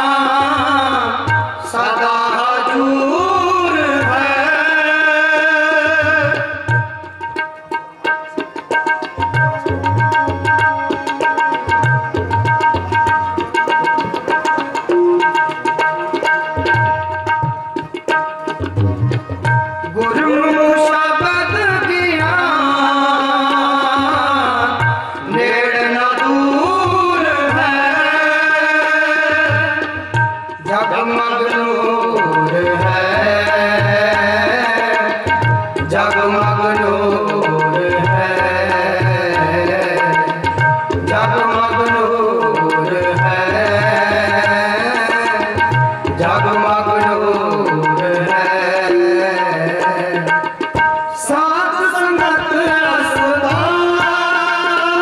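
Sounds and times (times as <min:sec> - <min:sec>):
harmonium: 0:00.0 - 0:55.0
tabla drums: 0:00.0 - 0:55.0.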